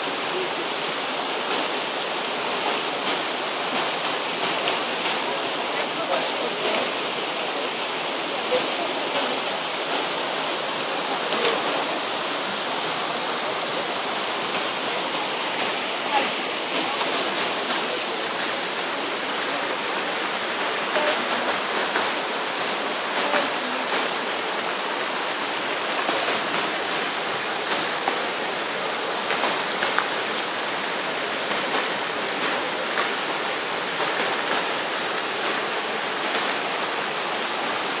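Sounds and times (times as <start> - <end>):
waterfall rushing and splashing: 0.0 - 38.0.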